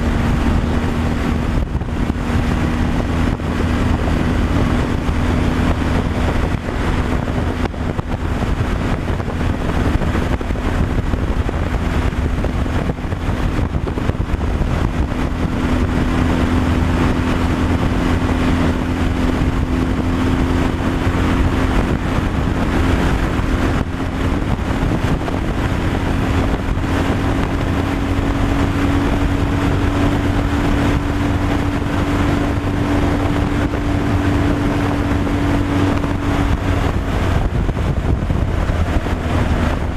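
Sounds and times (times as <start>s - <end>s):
road and wind noise: 0.0s - 39.9s
truck engine humming: 0.0s - 39.9s.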